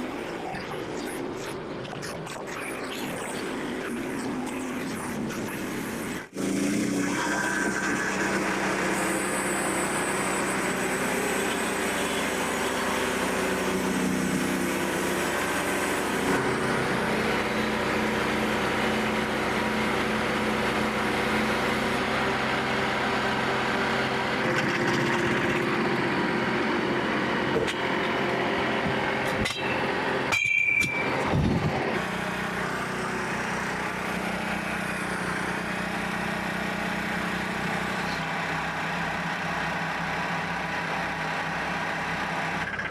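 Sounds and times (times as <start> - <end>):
bandsaw mill running: 6.0 - 42.9.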